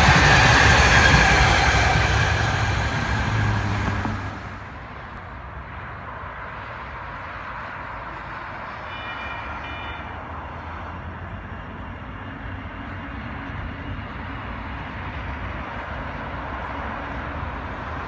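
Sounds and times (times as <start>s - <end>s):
light rail train rumbling: 0.0s - 18.0s.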